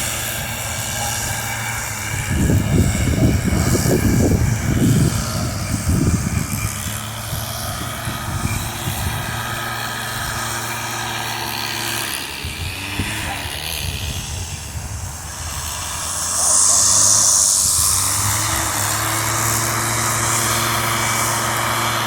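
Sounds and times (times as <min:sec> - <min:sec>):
wind buffeting microphone: 0:00.0 - 0:11.2, 0:11.9 - 0:22.0
motor droning: 0:00.0 - 0:22.0.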